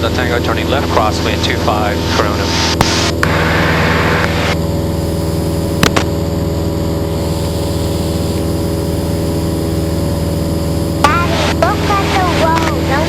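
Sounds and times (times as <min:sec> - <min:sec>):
airplane engine and propeller droning: 0:00.0 - 0:13.0.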